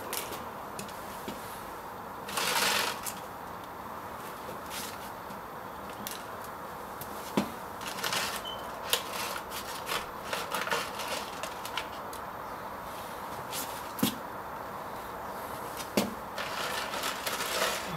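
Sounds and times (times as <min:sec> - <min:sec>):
outdoor background noise: 0:00.0 - 0:17.9.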